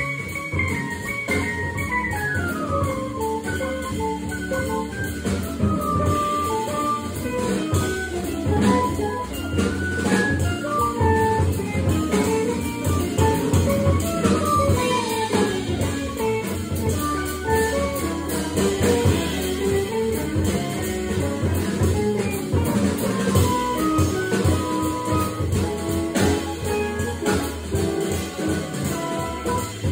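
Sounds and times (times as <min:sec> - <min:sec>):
jazz trio playing: 0:00.0 - 0:29.9
steady drums: 0:00.0 - 0:29.9.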